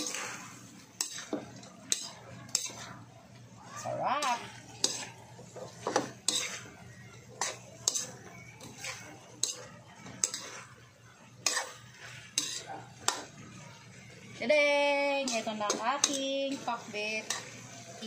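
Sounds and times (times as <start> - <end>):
metal spatula scraping a wok: 0.0 - 18.0.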